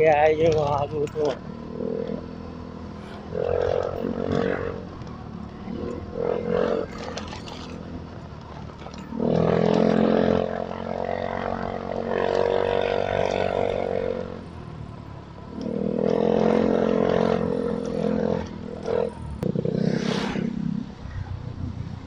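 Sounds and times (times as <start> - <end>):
motorcycle engine under throttle: 0.0 - 22.0.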